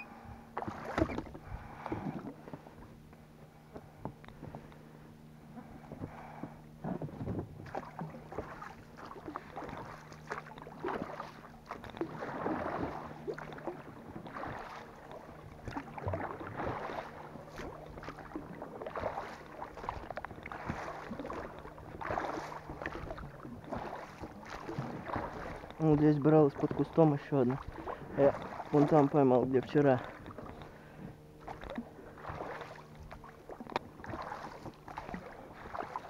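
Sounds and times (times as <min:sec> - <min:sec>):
oars splashing in water: 0:00.0 - 0:04.8, 0:05.4 - 0:36.0.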